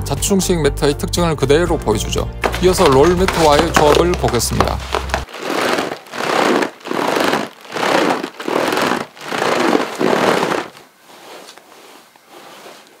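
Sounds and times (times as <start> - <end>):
air mattress crinkling and rustling: 2.4 - 13.0.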